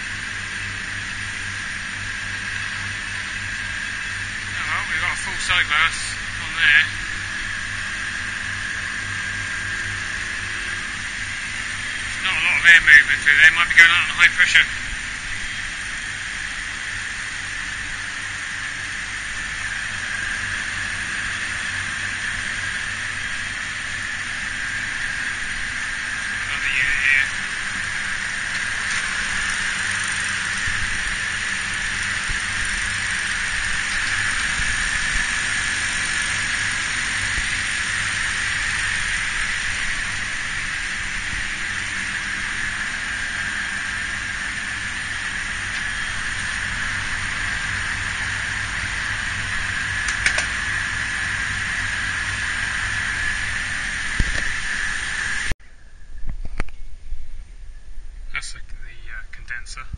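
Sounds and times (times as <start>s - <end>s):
compressor and fans humming: 0.0s - 59.9s.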